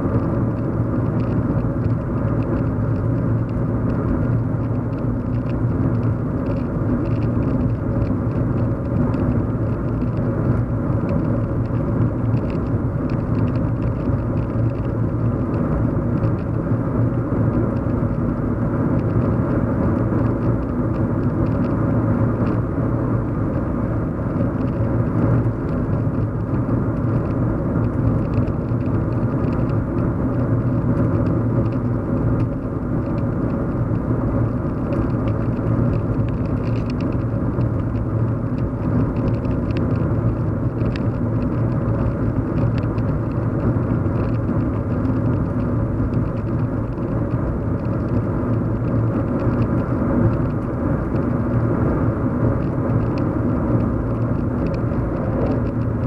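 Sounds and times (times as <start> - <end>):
car cabin hum and road rumble: 0.0 - 56.0.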